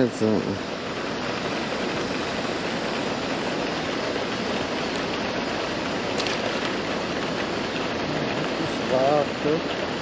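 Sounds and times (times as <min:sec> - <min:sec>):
rushing water hiss: 0:00.0 - 0:10.0.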